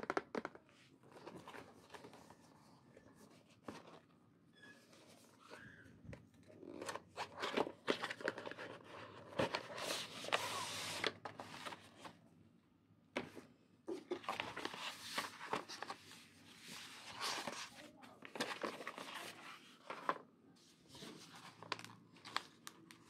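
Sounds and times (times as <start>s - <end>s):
paper packaging rustling: 1.0s - 4.1s, 6.5s - 12.2s, 13.2s - 23.0s.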